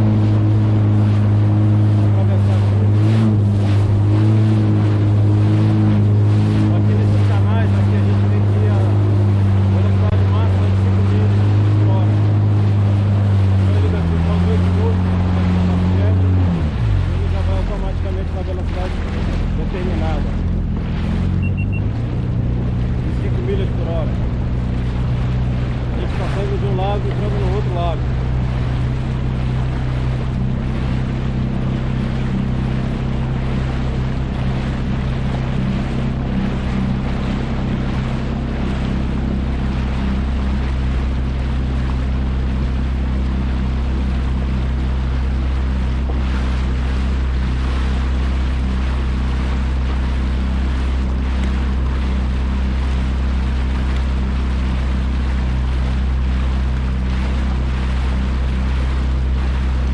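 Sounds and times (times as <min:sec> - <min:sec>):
jet ski engine running: 0:00.0 - 0:59.9
rushing water: 0:00.0 - 0:59.9
wind on microphone: 0:00.0 - 0:59.9.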